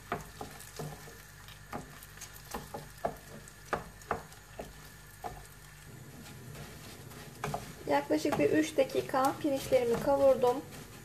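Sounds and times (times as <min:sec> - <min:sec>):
wooden spoon scraping a pan: 0:00.0 - 0:11.0.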